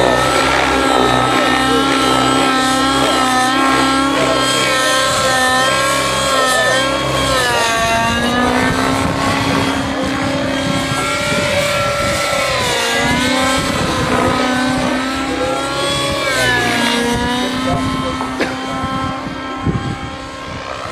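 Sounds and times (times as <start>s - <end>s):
model helicopter engine buzzing: 0.0s - 20.9s.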